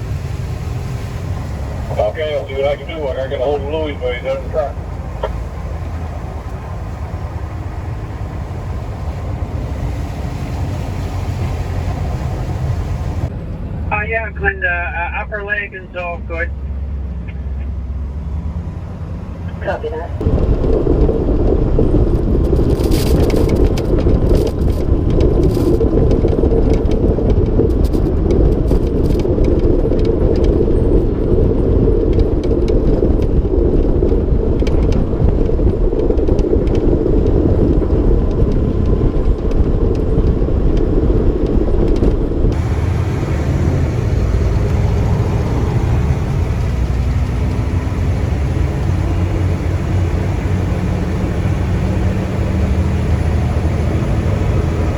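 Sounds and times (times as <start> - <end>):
low steady rumble: 0.0 - 54.9
snowplow truck engine and road noise: 0.0 - 54.9.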